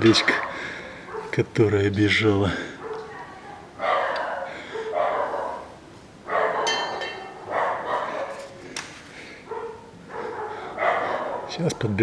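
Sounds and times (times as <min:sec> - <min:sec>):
dog barking: 0:00.0 - 0:01.4, 0:02.5 - 0:08.6, 0:09.4 - 0:12.0.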